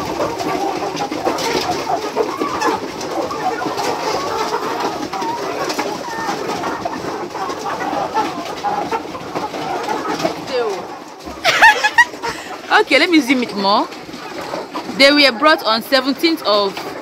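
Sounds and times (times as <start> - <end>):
chicks chirping: 0.0 - 17.0.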